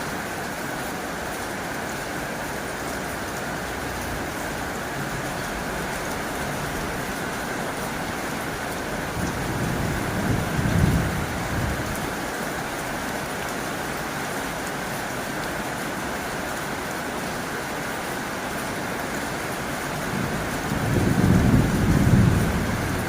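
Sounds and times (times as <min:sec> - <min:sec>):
heavy rain on a tin roof: 0:00.0 - 0:23.0.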